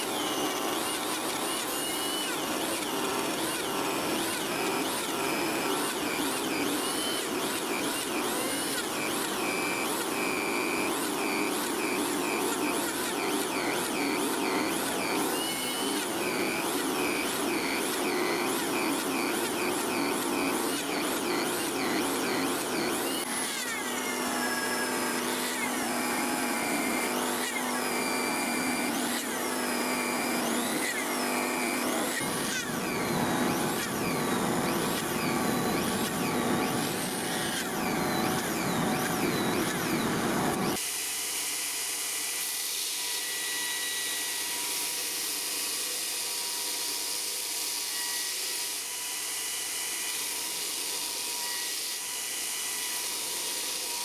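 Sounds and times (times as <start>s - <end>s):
electric power tool running: 0.0s - 54.0s.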